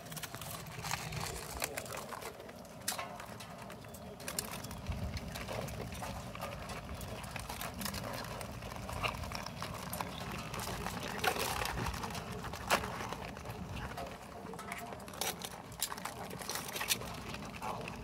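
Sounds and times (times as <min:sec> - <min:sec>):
crab shells clicking and scraping: 0:00.0 - 0:18.0.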